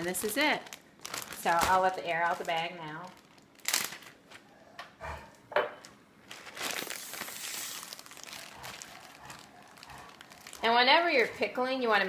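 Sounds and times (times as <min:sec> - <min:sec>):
plastic bag crinkling: 0:00.0 - 0:04.5, 0:05.8 - 0:11.4.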